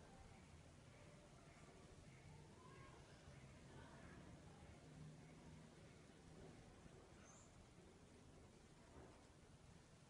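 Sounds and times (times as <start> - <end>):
steady low hum and hiss: 0.0 - 10.0.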